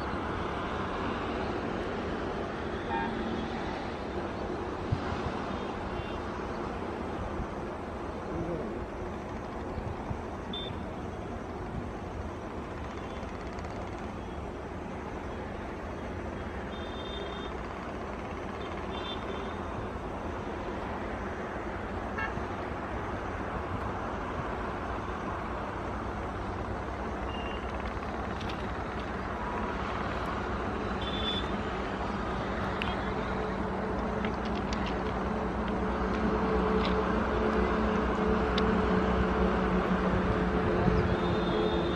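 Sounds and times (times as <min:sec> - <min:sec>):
diesel locomotive engine rumble: 0:00.0 - 0:41.9.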